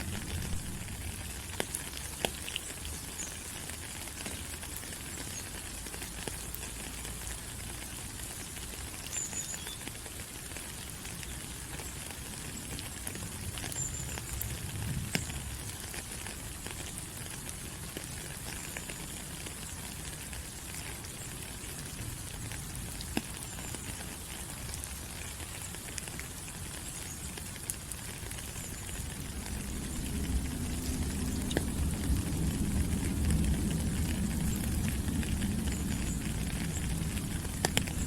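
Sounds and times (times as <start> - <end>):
rain falling through foliage: 0.0 - 38.0.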